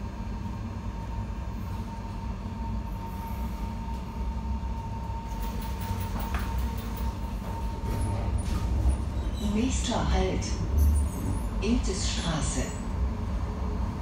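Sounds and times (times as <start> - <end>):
constant high hum: 0.0 - 14.0
tram rumbling: 0.0 - 14.0.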